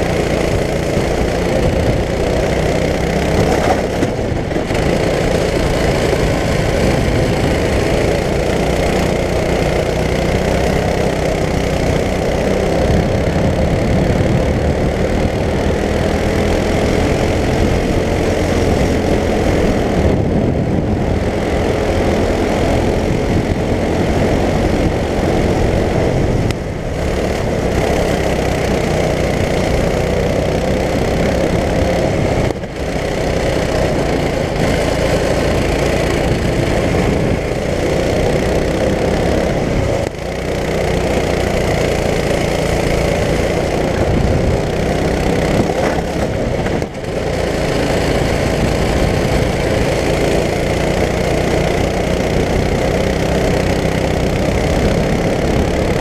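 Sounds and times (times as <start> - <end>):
go-kart engine at high revs: 0.0 - 56.0.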